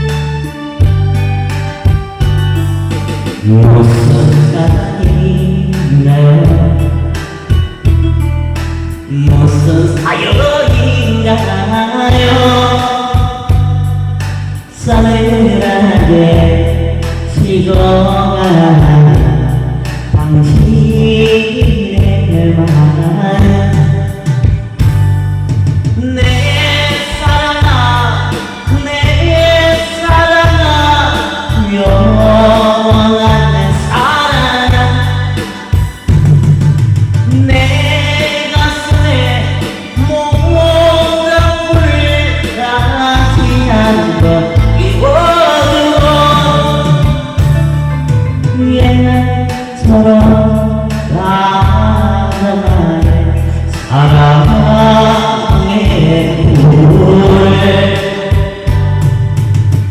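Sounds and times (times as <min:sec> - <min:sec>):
backing track with pulsing bass: 0:00.0 - 0:59.9
loud amplified accompaniment: 0:00.0 - 0:59.9
person singing long notes: 0:03.4 - 0:07.9, 0:09.1 - 0:24.8, 0:26.0 - 0:36.2, 0:37.3 - 0:47.7, 0:48.6 - 0:59.3.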